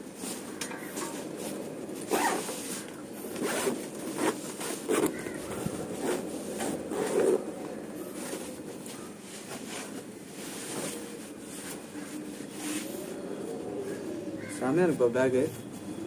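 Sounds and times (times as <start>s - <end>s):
backpack rustling: 0.0s - 16.0s.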